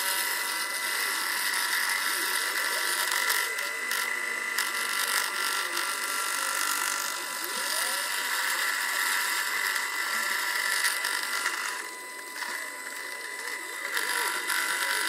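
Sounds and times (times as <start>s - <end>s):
end mill cutting metal: 0.0s - 15.0s
high motor whine: 0.0s - 15.0s.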